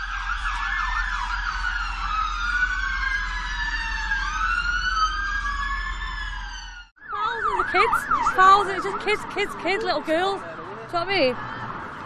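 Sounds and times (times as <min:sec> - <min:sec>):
emergency vehicle sirens wailing: 0:00.0 - 0:12.0.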